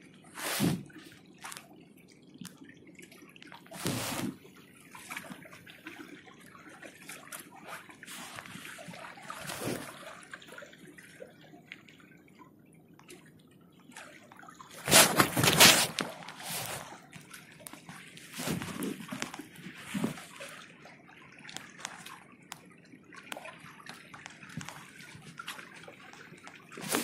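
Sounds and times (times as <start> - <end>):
water sloshing and dripping: 0.0 - 27.0.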